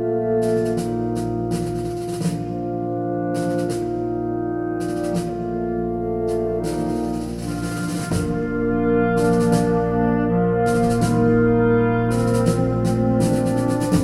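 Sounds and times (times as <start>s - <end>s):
orchestral music with brass: 0.0s - 14.0s.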